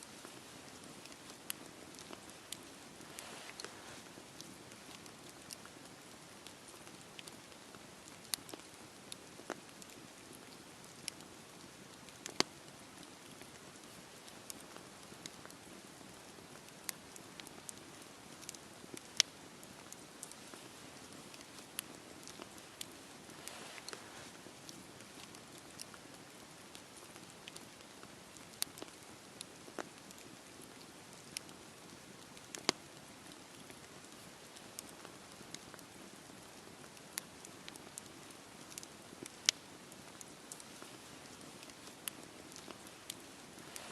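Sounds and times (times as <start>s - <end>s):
campfire crackling and popping: 0.0s - 43.9s
rain falling: 0.0s - 43.9s.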